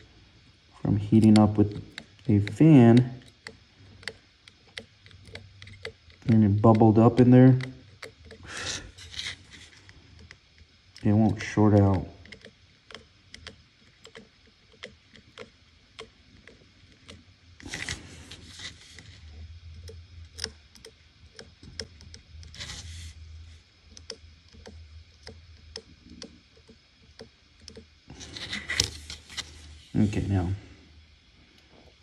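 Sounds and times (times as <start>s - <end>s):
soldering iron clicks and crackles: 0.0s - 30.2s.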